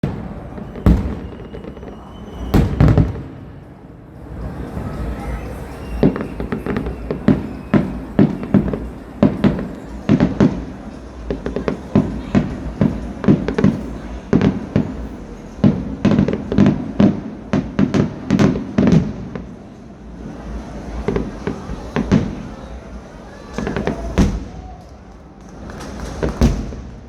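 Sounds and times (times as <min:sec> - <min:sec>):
fireworks bangs and booms: 0:00.0 - 0:27.0.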